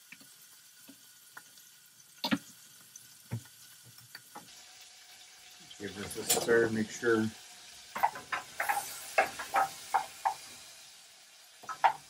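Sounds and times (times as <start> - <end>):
bacon sizzling faintly: 0.0 - 12.0.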